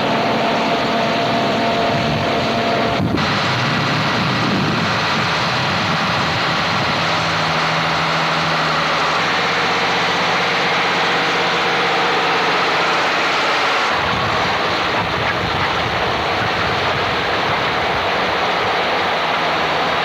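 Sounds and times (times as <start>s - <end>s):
heavy engine running: 0.0s - 20.0s.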